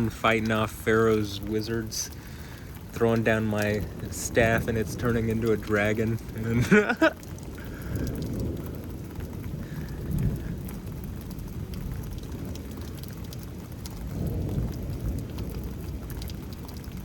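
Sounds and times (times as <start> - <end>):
low thunder rumbles: 0.0 - 17.0
steady rain: 0.0 - 17.0.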